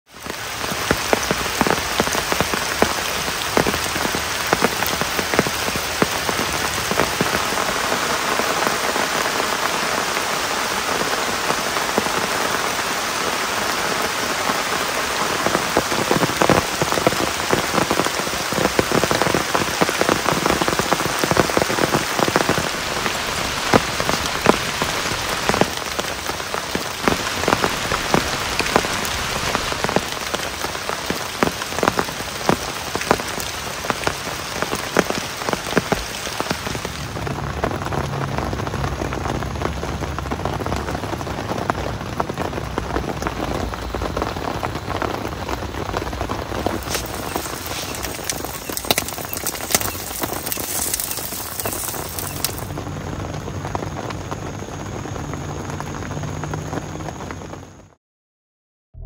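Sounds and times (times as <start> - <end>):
raindrops striking close by: 0.1 - 57.9
steady rain falling: 0.1 - 58.0.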